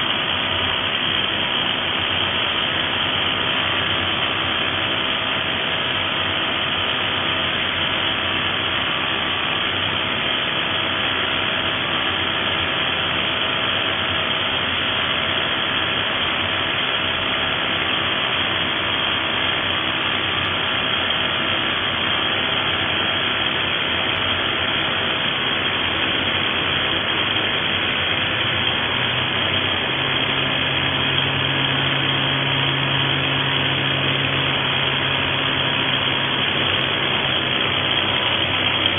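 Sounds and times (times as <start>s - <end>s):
low hum: 0.0s - 38.9s.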